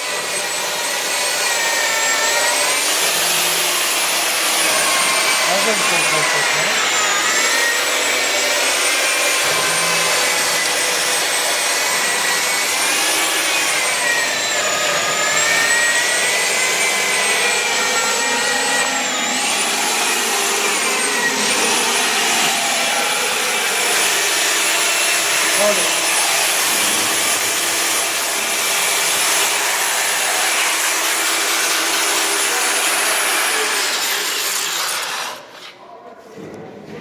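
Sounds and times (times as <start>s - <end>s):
core drill motor whining under load: 0.0s - 35.4s.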